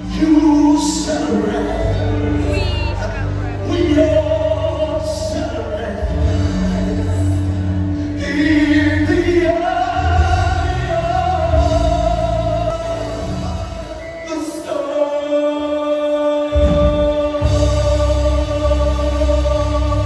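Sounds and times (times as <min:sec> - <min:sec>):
low bass line: 0:00.0 - 0:14.0, 0:16.6 - 0:20.0
gospel singing with accompaniment: 0:00.0 - 0:20.0.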